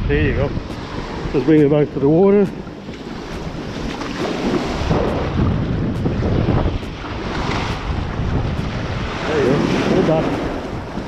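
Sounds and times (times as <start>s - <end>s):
surf washing on beach: 0.0s - 11.0s
wind buffeting microphone: 0.0s - 11.0s.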